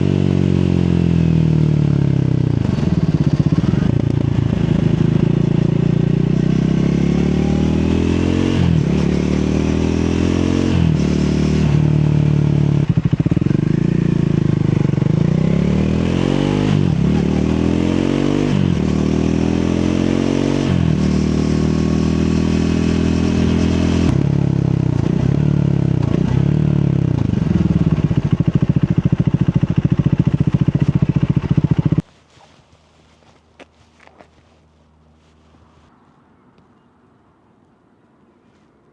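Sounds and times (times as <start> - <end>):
motorcycle engine accelerating: 0.0 - 32.1.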